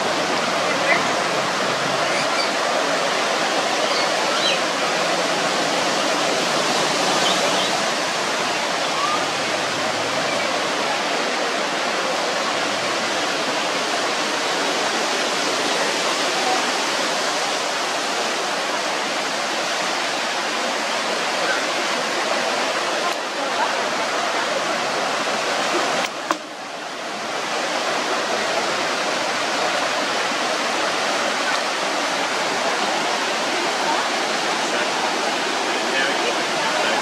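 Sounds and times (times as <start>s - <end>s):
floodwater rushing: 0.0s - 37.0s.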